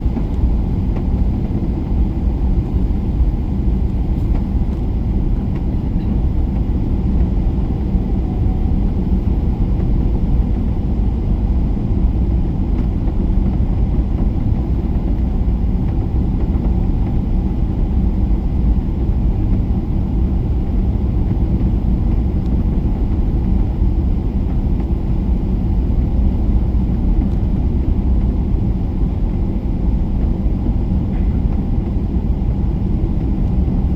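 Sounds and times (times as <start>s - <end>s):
airliner cabin engine rumble: 0.0s - 33.9s.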